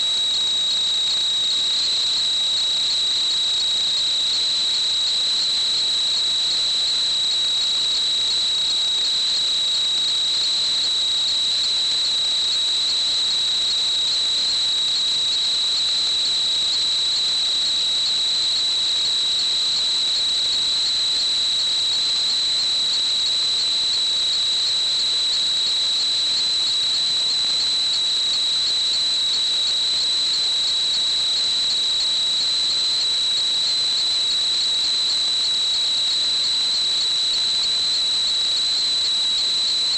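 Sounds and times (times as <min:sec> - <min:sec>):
high-pitched whistle: 0:00.0 - 0:39.9.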